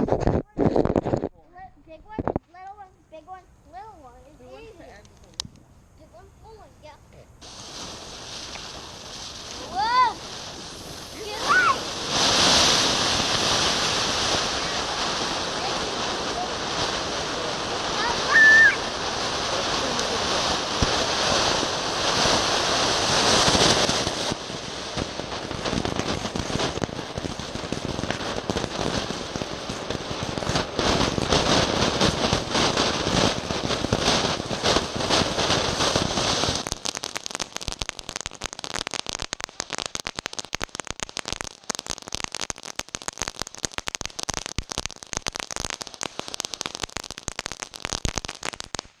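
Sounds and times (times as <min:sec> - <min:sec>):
firework hissing crackle: 0:00.0 - 0:49.0.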